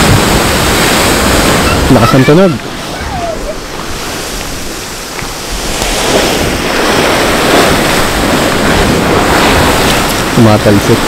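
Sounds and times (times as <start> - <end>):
hot spring bubbling and splashing: 0.0 - 11.0.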